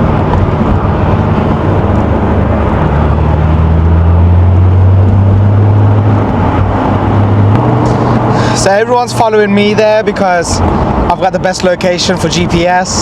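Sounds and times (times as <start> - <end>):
car engine pulling away: 0.0 - 11.1.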